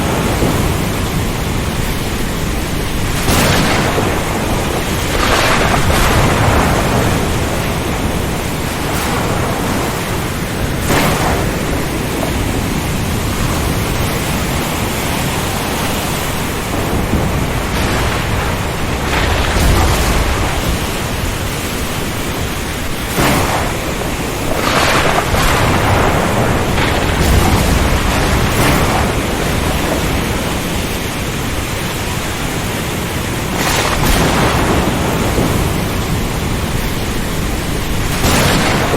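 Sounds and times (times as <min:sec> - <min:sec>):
heavy rain: 0:00.0 - 0:38.9
thunder rumbles: 0:00.0 - 0:38.9
wind: 0:00.0 - 0:38.9.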